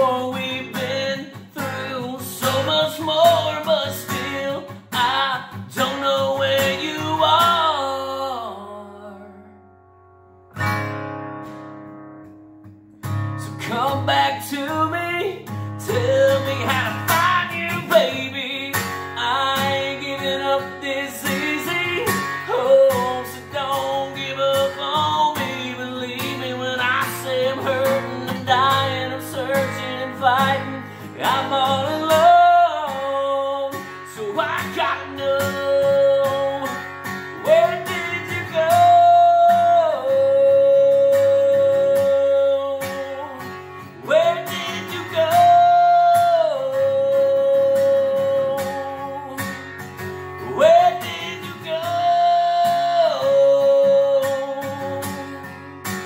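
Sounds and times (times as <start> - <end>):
man singing: 0.0 - 9.6, 13.3 - 56.0
acoustic guitar strumming: 0.0 - 56.0.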